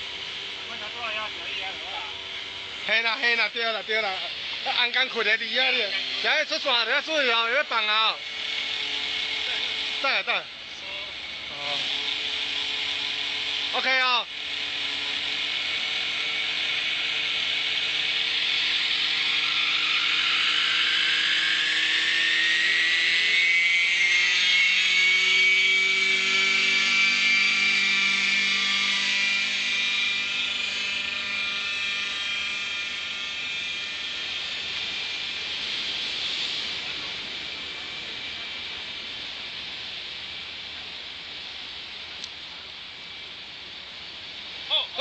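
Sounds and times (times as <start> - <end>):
high whine: 0.0 - 45.0
lower hum: 0.0 - 45.0.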